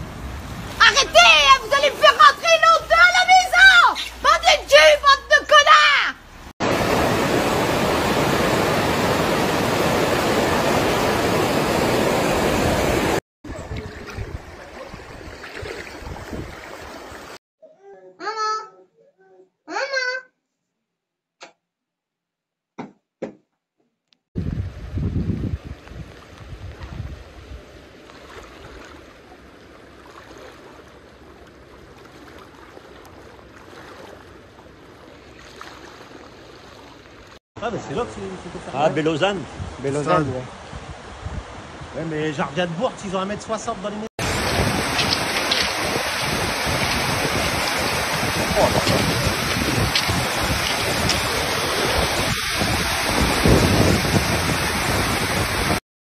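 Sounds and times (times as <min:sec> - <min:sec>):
floodwater rushing: 0:00.0 - 0:17.4, 0:26.0 - 0:43.1, 0:44.2 - 0:55.8.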